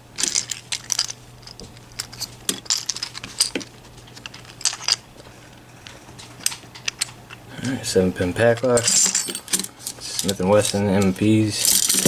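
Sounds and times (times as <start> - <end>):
handcuffs clinking: 0.2 - 5.2, 5.8 - 12.0.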